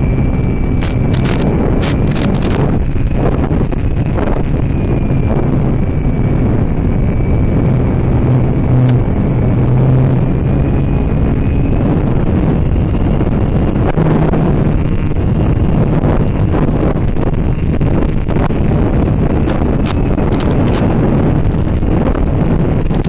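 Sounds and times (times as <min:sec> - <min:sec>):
electric motor and propeller hum: 0:00.0 - 0:23.0
wind buffeting microphone: 0:00.0 - 0:23.0.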